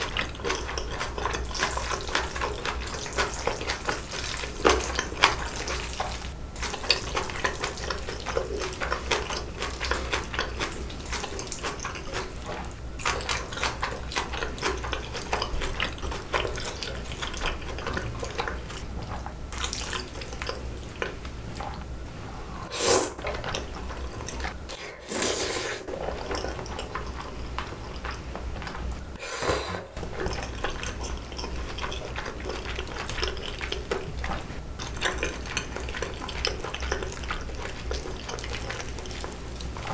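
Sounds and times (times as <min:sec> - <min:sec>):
chewing noodles: 0:00.0 - 0:21.9, 0:22.5 - 0:29.2, 0:30.0 - 0:39.9.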